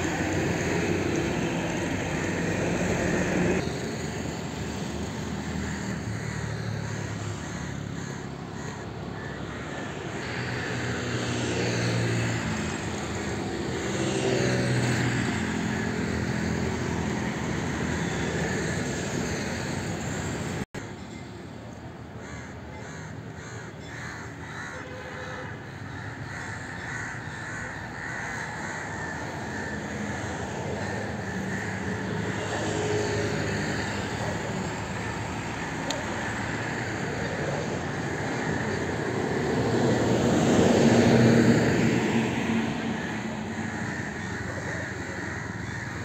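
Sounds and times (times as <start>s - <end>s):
vehicle passing: 0.0s - 20.6s, 26.3s - 46.0s
traffic noise: 0.0s - 46.0s
crows cawing: 5.2s - 20.4s, 22.2s - 46.0s.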